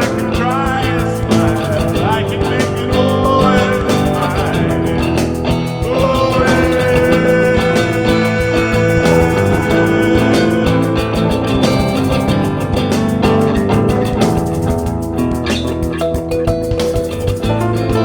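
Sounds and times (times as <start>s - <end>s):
bass: 0.0s - 18.0s
cymbals ticking: 0.0s - 18.0s
drums: 0.0s - 18.0s
electric guitar bending notes: 0.0s - 18.0s.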